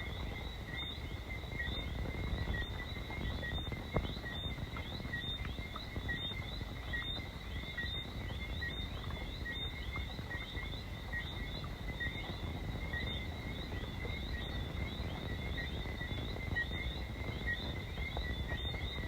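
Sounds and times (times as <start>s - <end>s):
frogs chirping chorus: 0.0s - 19.0s.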